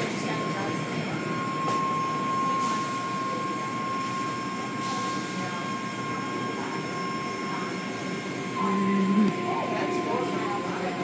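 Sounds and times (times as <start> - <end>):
car wash machinery whine: 0.0 - 11.0.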